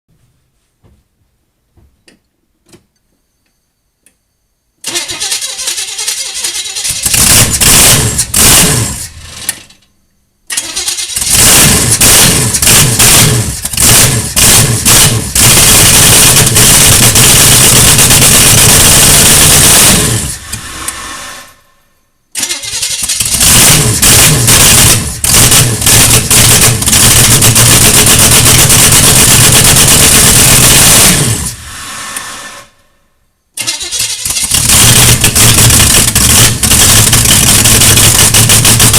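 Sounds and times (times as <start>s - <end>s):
loud engine starting and running: 4.8s - 9.8s, 10.5s - 33.0s, 33.6s - 38.9s.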